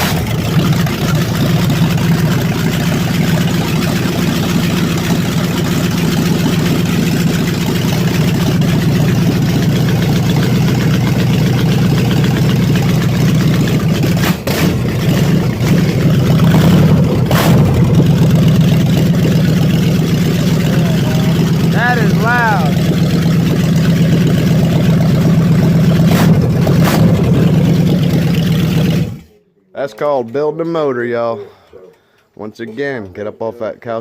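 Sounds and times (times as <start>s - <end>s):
car engine running loud: 0.0s - 29.3s.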